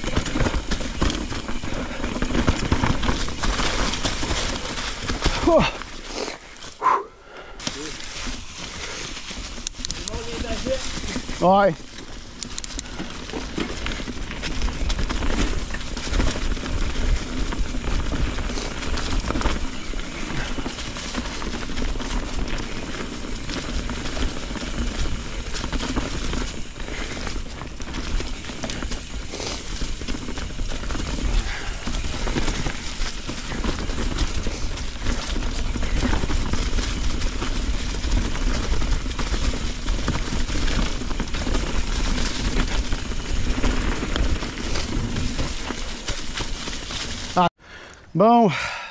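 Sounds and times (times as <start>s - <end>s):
bike knocks and rattles: 0.0s - 6.7s, 9.2s - 47.4s
bike tyres rolling over leaves: 0.0s - 48.9s.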